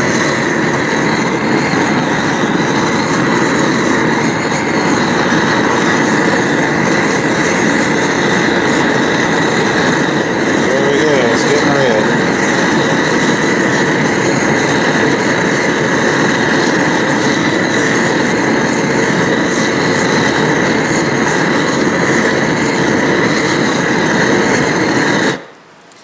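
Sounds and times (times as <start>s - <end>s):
gas torch flame hissing: 0.0s - 25.5s.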